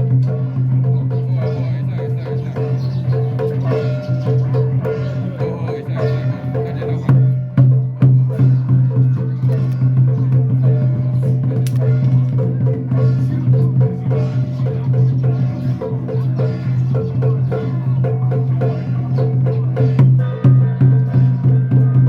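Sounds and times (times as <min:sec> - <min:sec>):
drums: 0:00.0 - 0:22.0.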